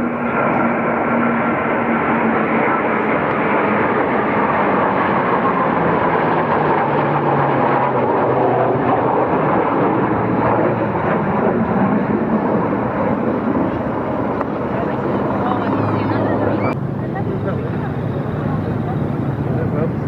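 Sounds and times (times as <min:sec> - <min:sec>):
jet aircraft flying overhead: 0:00.0 - 0:20.0.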